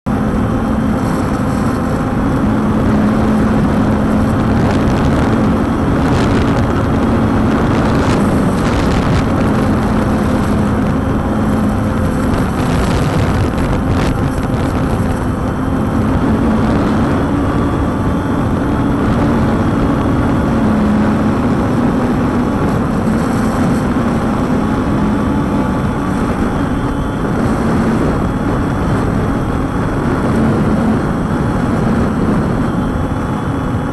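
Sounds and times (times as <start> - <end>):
drone propellers whirring: 0.1 - 33.9
wind rumble on microphone: 0.1 - 33.9.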